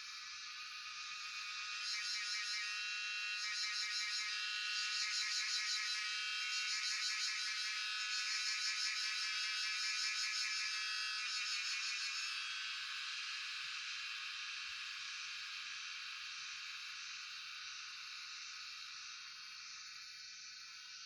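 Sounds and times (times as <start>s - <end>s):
cicadas buzzing in chorus: 0.0s - 21.0s.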